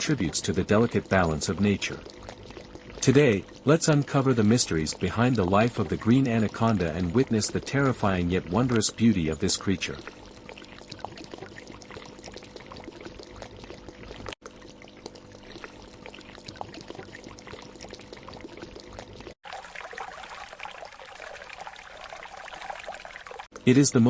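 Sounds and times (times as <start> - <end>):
trickling water: 0.0 - 23.8.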